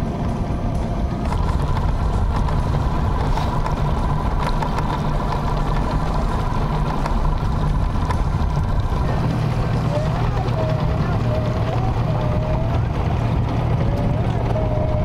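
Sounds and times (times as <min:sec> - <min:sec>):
high whine: 0:00.0 - 0:15.0
outboard motor droning: 0:00.0 - 0:15.0.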